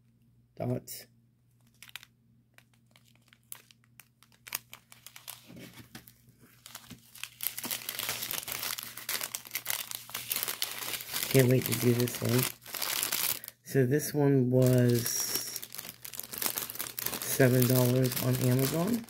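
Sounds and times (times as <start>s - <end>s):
plastic bags crinkling: 1.6s - 13.6s, 14.6s - 19.0s.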